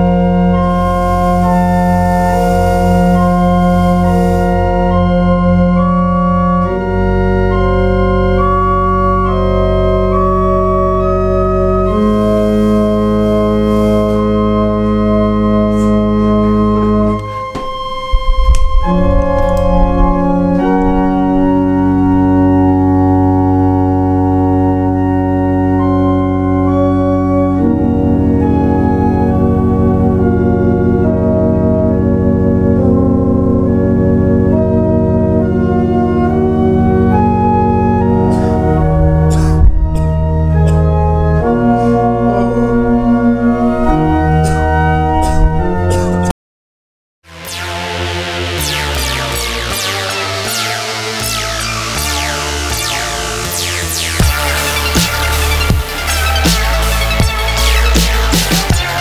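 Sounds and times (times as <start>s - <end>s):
pipe organ chords: 0.0s - 46.3s, 47.3s - 59.0s.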